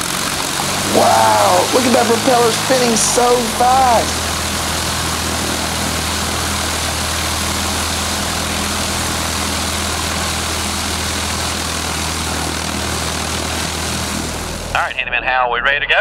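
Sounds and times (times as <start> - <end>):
propeller aircraft engine idling: 0.0 - 14.8.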